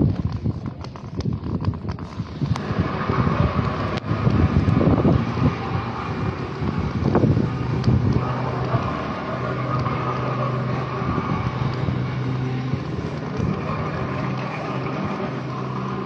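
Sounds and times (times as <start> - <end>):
street noise: 0.0 - 16.0
vehicle engine humming: 0.6 - 16.0.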